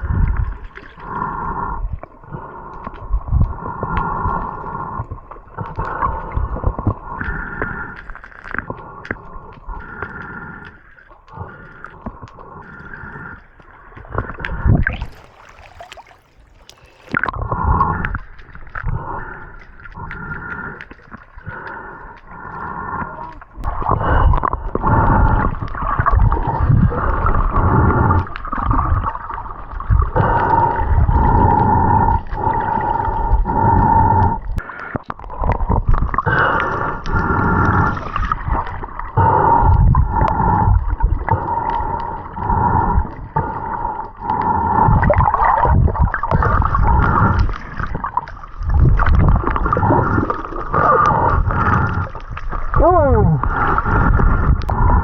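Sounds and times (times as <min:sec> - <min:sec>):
muffled water sloshing and gurgling: 0:00.0 - 0:55.0.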